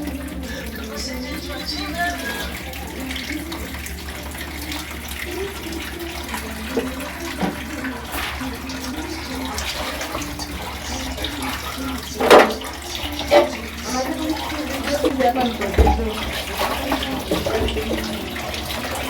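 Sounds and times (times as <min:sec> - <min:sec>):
water running from tap into sink: 0:00.0 - 0:19.0.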